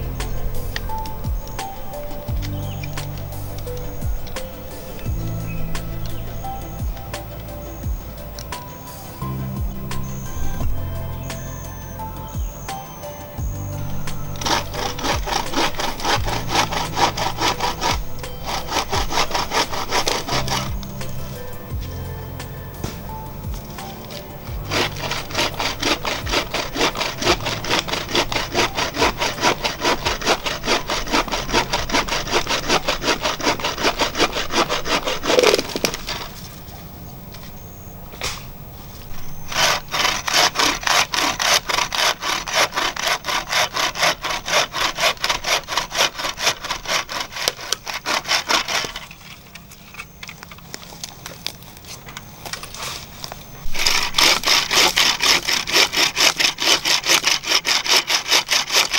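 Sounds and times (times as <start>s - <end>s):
saw cutting through wood: 0.0s - 36.4s, 39.1s - 50.2s, 53.6s - 58.9s.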